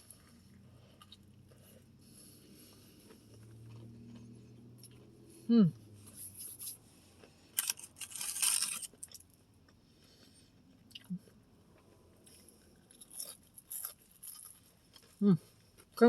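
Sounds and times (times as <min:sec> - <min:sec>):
chewing and crunching fried food: 0:00.0 - 0:16.0.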